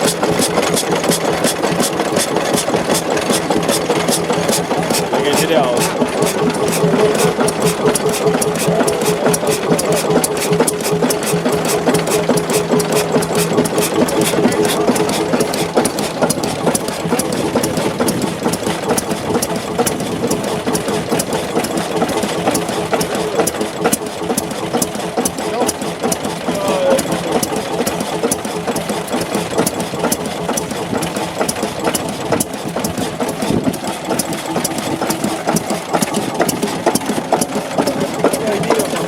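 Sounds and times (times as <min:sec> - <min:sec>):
engine hum: 0:00.0 - 0:39.0
stationary engine clicking: 0:00.0 - 0:39.0.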